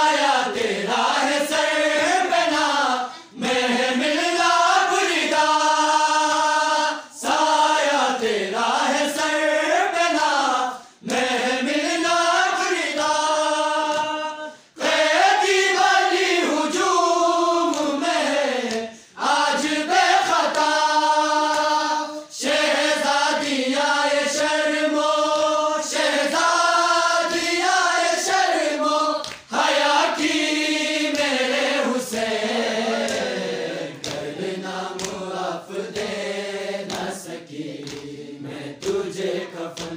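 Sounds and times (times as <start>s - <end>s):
men singing a lament in unison: 0.0s - 39.9s.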